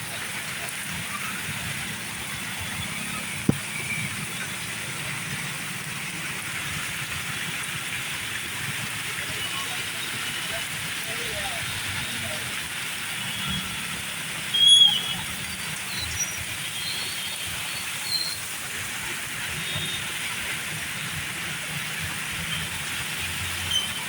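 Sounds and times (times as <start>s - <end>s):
heavy rain hissing: 0.0s - 24.0s.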